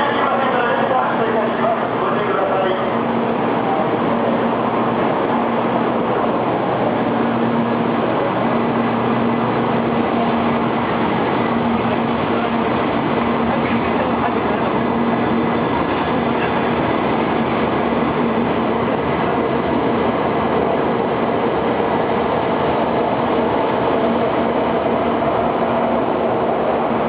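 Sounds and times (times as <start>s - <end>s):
train running noise: 0.0s - 27.0s.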